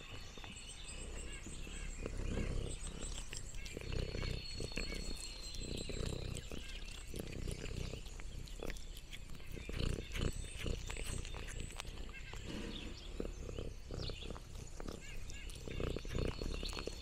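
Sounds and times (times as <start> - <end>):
cat licking and chewing: 0.0 - 17.0.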